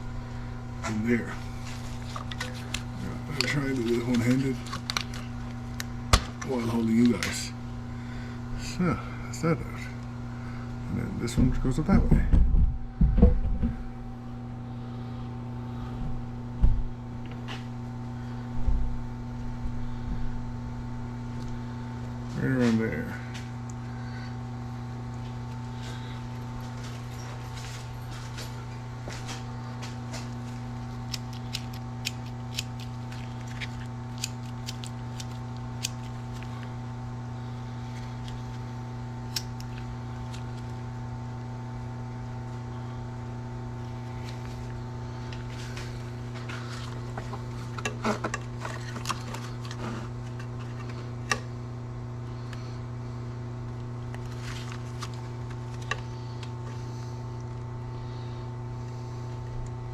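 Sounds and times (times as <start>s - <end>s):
low fan hum: 0.0s - 59.9s.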